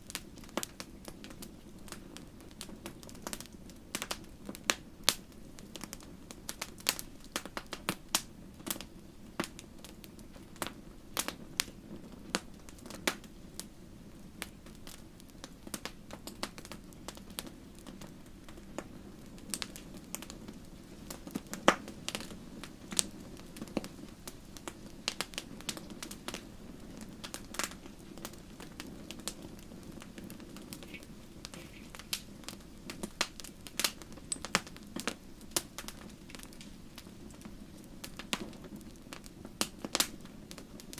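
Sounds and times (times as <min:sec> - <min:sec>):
hiss of burning: 0:00.0 - 0:40.9
wood fire crackling: 0:00.0 - 0:40.9.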